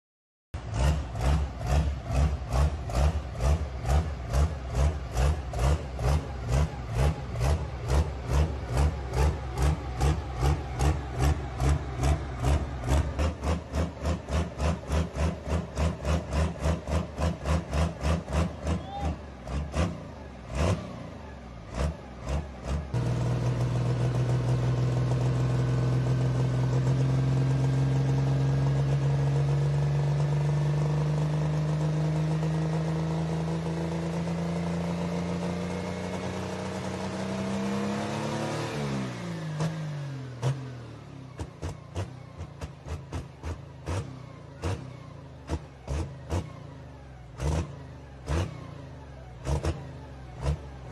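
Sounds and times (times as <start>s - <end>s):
diesel engine idling and revving: 0.6s - 50.9s.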